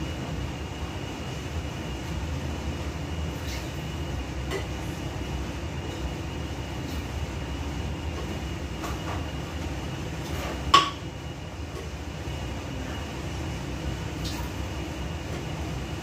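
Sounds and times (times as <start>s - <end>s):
kitchen fan rumbling: 0.0s - 16.0s.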